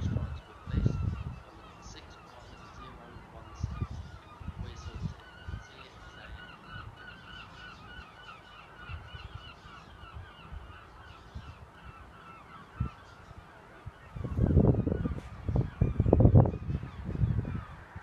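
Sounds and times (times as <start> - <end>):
geese honking: 0.0 - 17.8.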